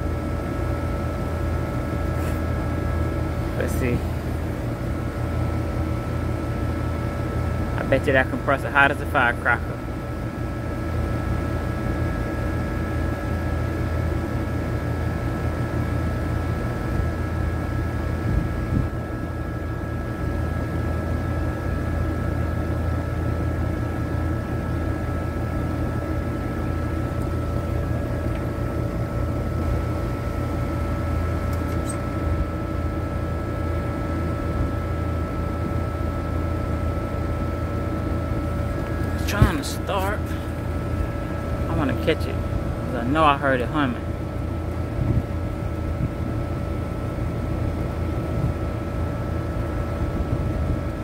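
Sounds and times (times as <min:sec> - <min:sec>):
condenser fan motor humming: 0:00.0 - 0:51.0.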